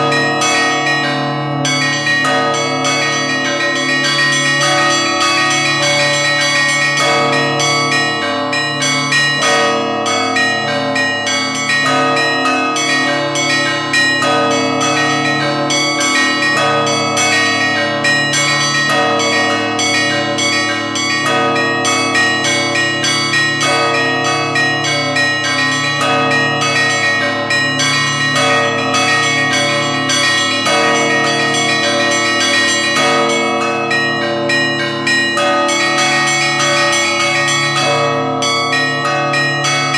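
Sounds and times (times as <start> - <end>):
deep church bells: 0.0 - 39.9.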